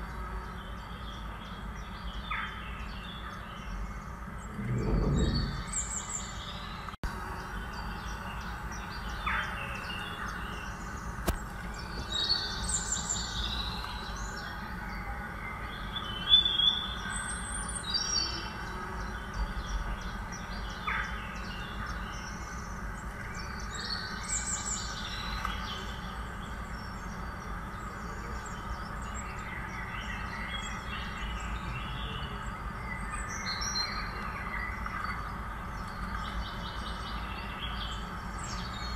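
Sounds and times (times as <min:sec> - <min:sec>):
outdoor background hiss: 0:00.0 - 0:38.9
small birds chirping: 0:00.0 - 0:38.9.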